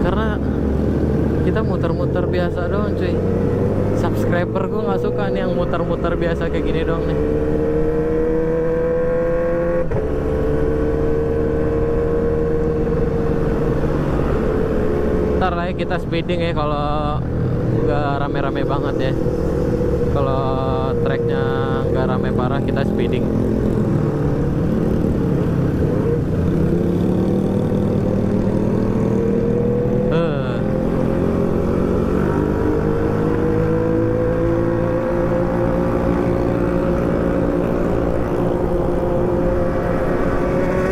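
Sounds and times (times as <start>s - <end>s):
motorcycle engine cruising: 0.0s - 40.9s
road and wind rumble: 0.0s - 40.9s.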